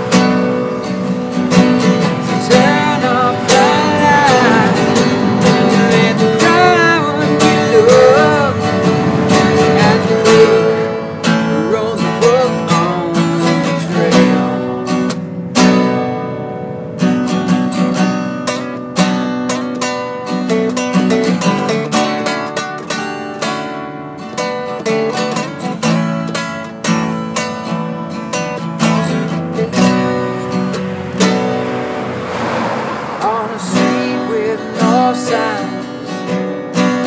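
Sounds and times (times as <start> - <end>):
acoustic guitars strumming: 0.0 - 37.0.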